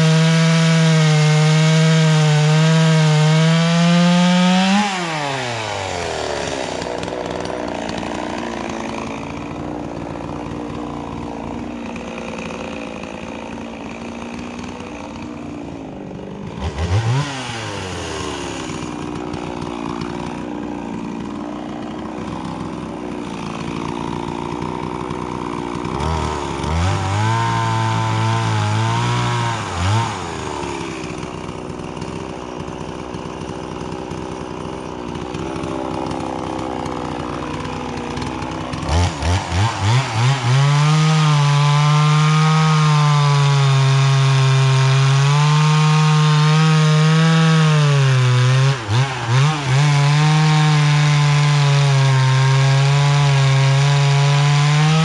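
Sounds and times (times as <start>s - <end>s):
chainsaw cutting log: 0.0s - 55.0s
chainsaw idling and revving: 0.0s - 55.0s.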